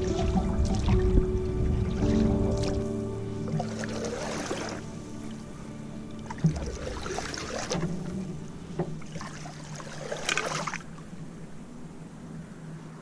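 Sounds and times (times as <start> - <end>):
canoe paddle splashing in water: 0.0 - 11.1.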